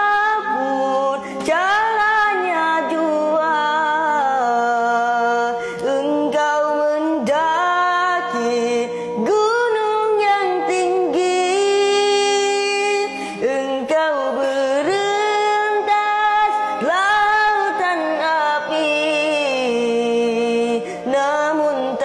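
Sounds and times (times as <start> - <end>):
boy singing: 0.0 - 22.0.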